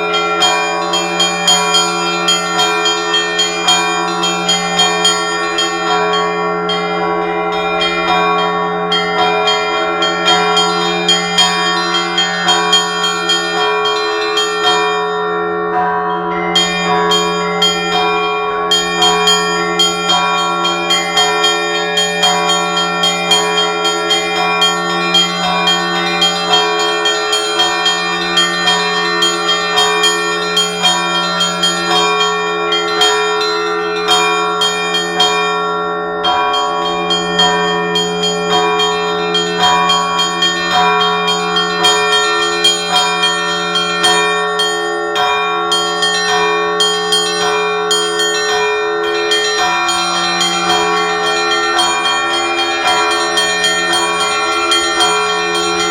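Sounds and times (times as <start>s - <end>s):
large low church bells ringing: 0.0s - 55.9s
small church bells ringing rhythmically: 0.0s - 55.9s.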